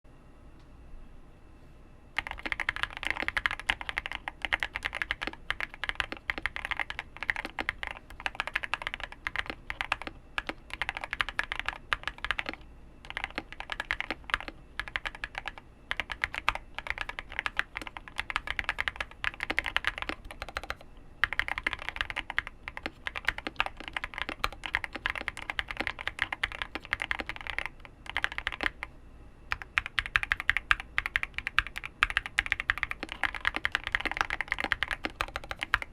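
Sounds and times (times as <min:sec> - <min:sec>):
fast typing on mechanical keyboard: 0:02.2 - 0:28.9, 0:29.5 - 0:35.9.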